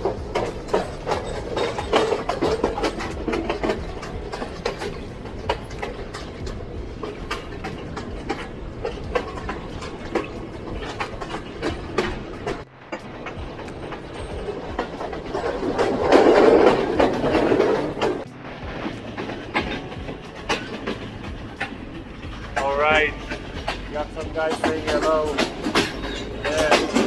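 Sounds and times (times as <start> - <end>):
carriage rattling: 0.0 - 27.0
train running gear rumble: 0.0 - 27.0
wheels clicking over rail joints: 0.0 - 27.0.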